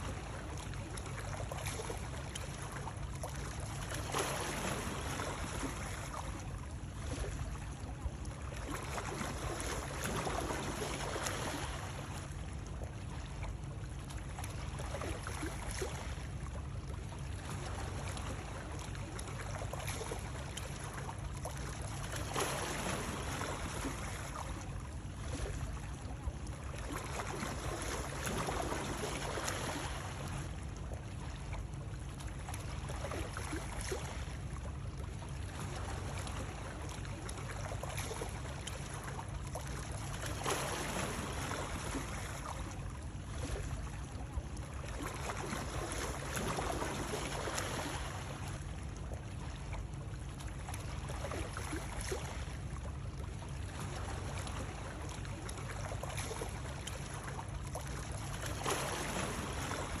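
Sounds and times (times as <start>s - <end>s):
moving water wash: 0.0s - 60.0s.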